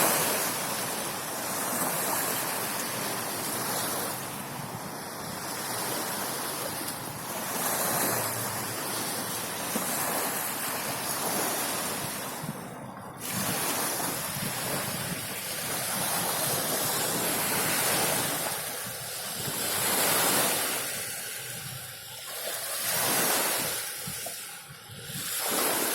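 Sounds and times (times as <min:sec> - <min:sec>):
waves breaking: 0:00.0 - 0:25.9.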